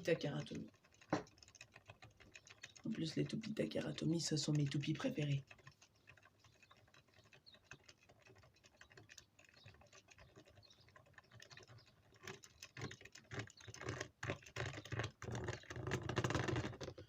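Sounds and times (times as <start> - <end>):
faint rapid irregular clicking: 0.0 - 17.0.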